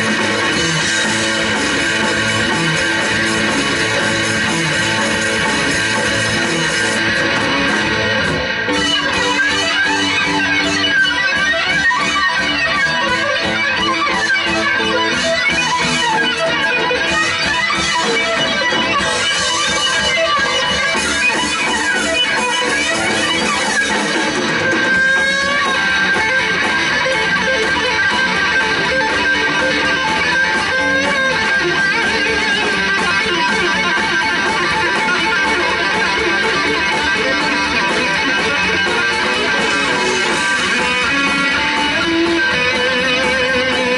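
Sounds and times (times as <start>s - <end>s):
electric guitar held high note: 0.0s - 43.9s
live rock band music: 0.0s - 43.9s.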